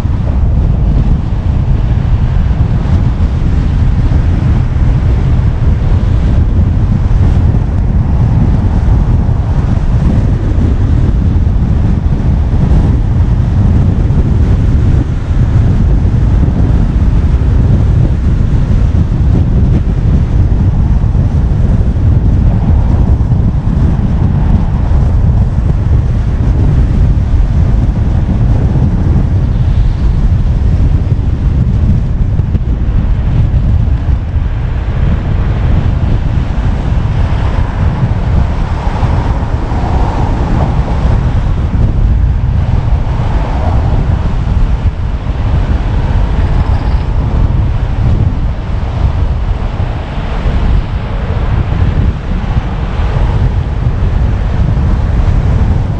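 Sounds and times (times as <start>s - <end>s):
road and tyre noise: 0.0s - 55.9s
wind buffeting microphone: 0.0s - 55.9s.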